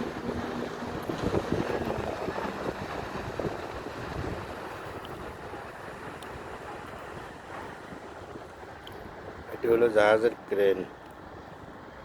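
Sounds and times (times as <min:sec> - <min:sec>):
wind buffeting microphone: 0:00.0 - 0:10.5
sea waves: 0:00.0 - 0:12.0.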